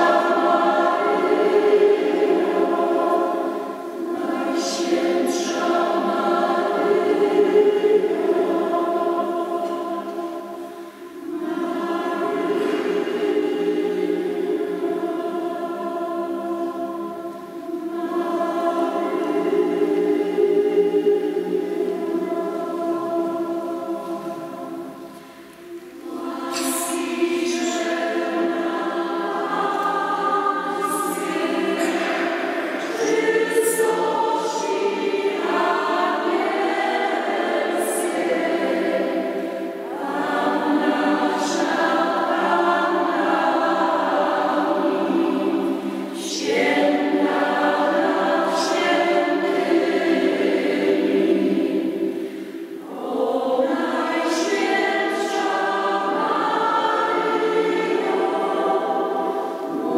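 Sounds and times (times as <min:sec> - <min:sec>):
mixed choir singing: 0:00.0 - 0:59.9.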